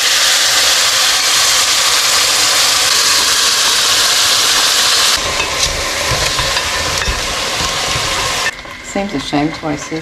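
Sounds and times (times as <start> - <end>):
food sizzling in a saucepan: 0.0 - 10.0.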